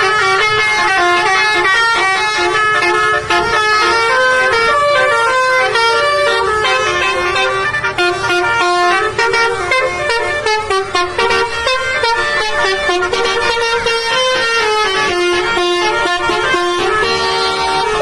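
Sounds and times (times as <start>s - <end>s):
musical vehicle horn playing a tune: 0.0s - 18.0s.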